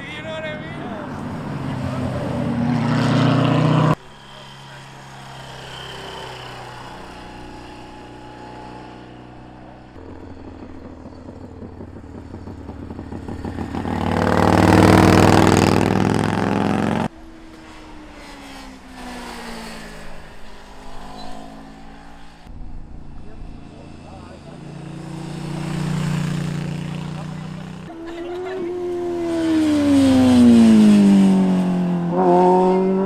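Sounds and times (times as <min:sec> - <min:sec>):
motorcycle engine passing: 0:00.0 - 0:33.0
quieter engine: 0:00.0 - 0:33.0.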